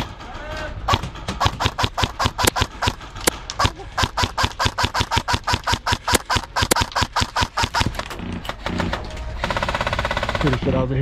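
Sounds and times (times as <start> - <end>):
airsoft guns firing: 0.8 - 10.9.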